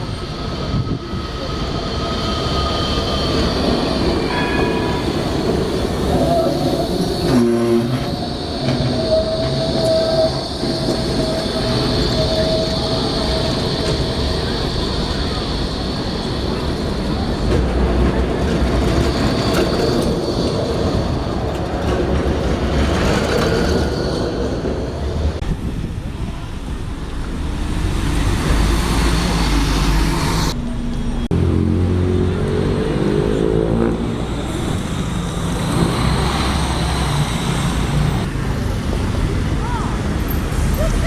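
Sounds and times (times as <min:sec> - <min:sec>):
traffic rumble: 0:00.0 - 0:41.0.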